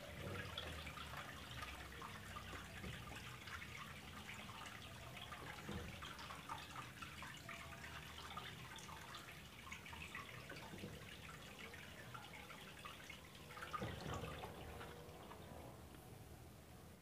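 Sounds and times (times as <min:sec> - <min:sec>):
water trickling and dripping: 0:00.0 - 0:16.8.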